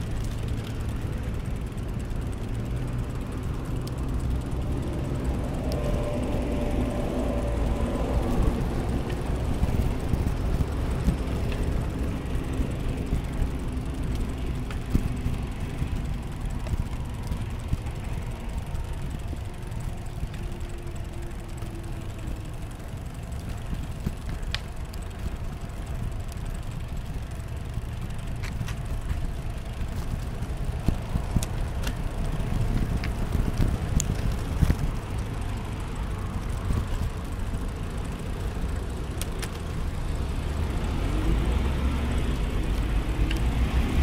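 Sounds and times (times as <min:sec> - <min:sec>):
engine drone: 0:00.0 - 0:44.0
traffic rumble: 0:00.0 - 0:44.0.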